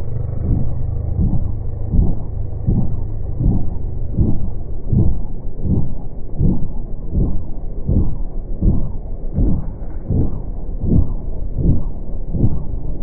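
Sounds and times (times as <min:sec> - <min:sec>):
helicopter hovering: 0:00.0 - 0:13.0.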